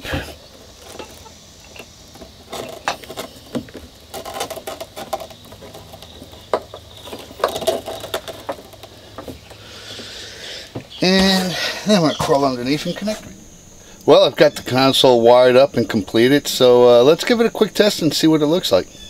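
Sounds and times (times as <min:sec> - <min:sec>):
rustling of hands working: 0:00.0 - 0:18.9.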